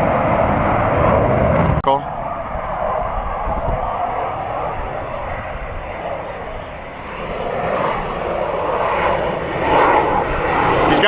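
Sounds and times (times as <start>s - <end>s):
military jet flying past: 0.0s - 11.0s.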